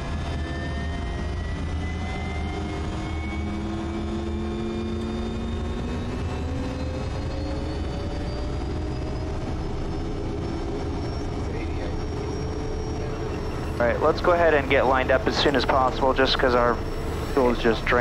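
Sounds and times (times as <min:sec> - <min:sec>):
turboprop engine drone and whine: 0:00.0 - 0:18.0.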